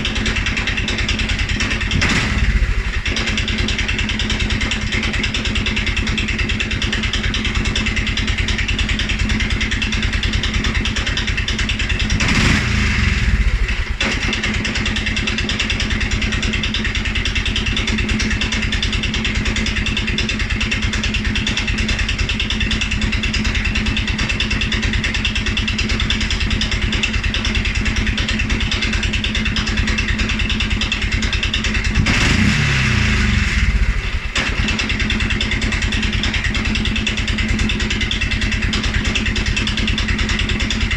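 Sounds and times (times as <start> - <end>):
engine idling and revving: 0.0 - 40.9.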